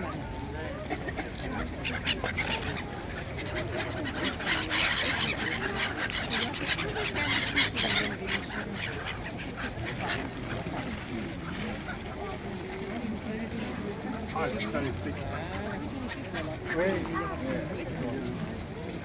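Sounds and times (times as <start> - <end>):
gulls calling: 0.0 - 18.7
crowd chatter: 0.0 - 19.0.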